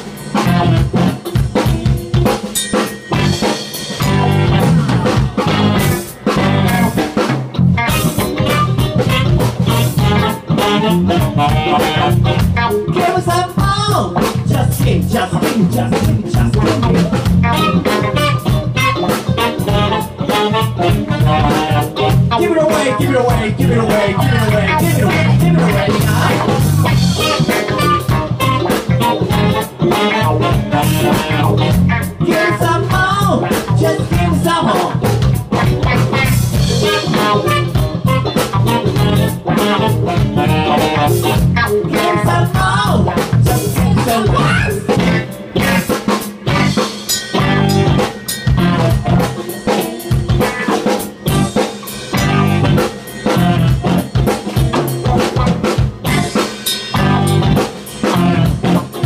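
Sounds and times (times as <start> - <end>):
live band playing ska funk: 0.0 - 59.0.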